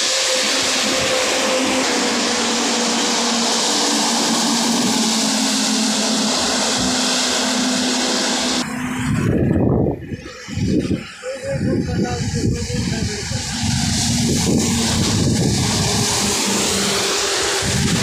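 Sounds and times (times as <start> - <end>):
surging rumbles: 0.0 - 18.0
truck tyres hissing on wet road: 0.0 - 18.0.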